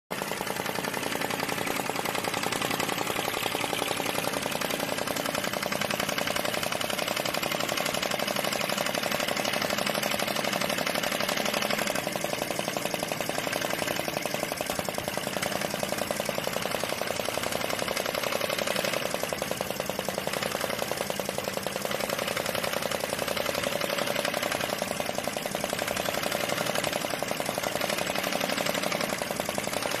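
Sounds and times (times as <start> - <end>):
model engine mechanical ticking: 0.1 - 30.0.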